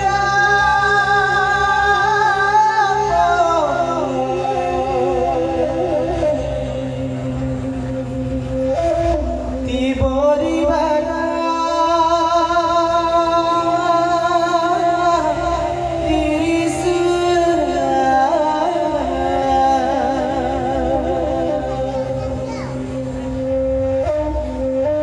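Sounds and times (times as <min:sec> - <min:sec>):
person singing wavering notes: 0:00.0 - 0:24.8
low drone: 0:00.0 - 0:25.0.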